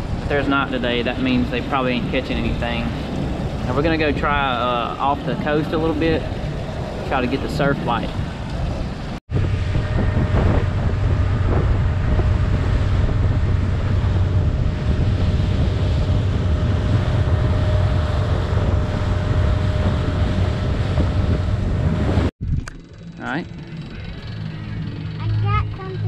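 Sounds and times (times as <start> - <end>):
boat wake rushing: 0.0 - 22.3
motorboat motor droning: 0.0 - 26.0
wind buffeting microphone: 0.0 - 26.0.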